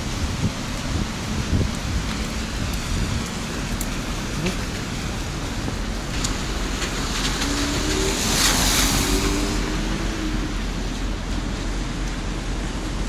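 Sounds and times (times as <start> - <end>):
street traffic on wet road: 0.0 - 13.0
tyres hissing on wet asphalt: 0.0 - 13.0.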